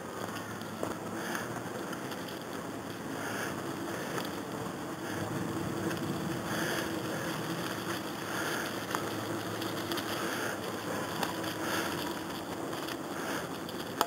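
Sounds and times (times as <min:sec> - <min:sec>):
faint steady hum: 0:00.0 - 0:14.0
wheels rolling over leaves: 0:00.0 - 0:14.0.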